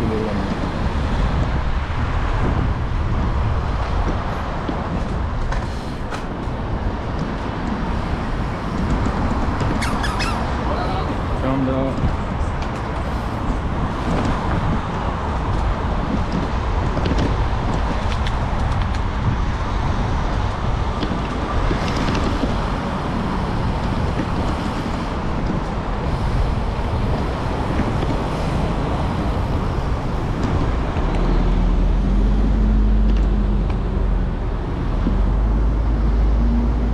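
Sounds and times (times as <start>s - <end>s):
deep engine rumble: 0.0s - 36.9s
road traffic noise: 0.0s - 36.9s.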